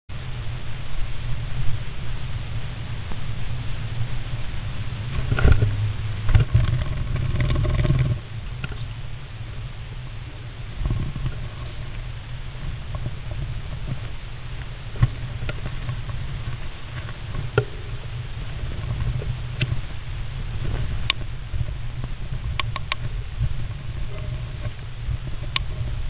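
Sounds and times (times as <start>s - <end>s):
low rumble: 0.1s - 26.0s.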